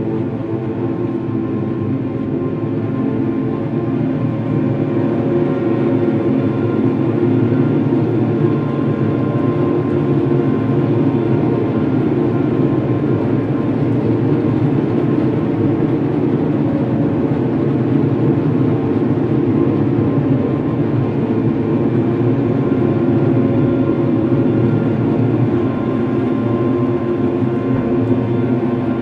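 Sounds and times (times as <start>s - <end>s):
dark ambient drone: 0.0s - 29.0s.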